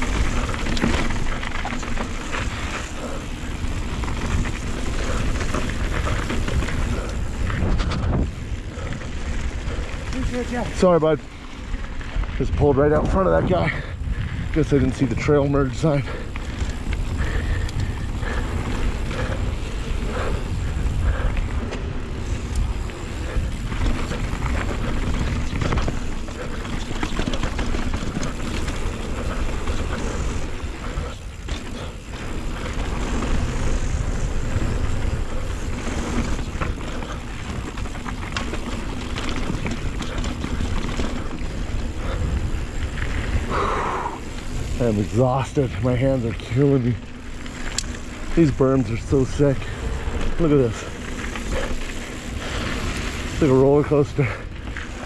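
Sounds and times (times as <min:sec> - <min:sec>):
bike rattling over dirt trail: 0:00.0 - 0:55.0
wind buffeting microphone: 0:00.0 - 0:55.0.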